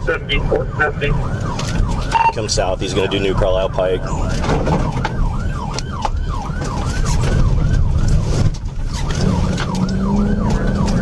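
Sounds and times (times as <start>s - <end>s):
car engine rumble and road noise: 0.0s - 11.0s
police siren yelping: 0.2s - 11.0s.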